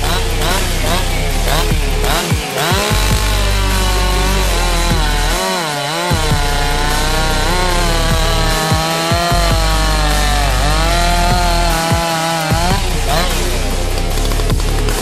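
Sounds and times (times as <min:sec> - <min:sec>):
chainsaw cutting log: 0:00.0 - 0:15.0
music with heavy bass: 0:00.0 - 0:15.0.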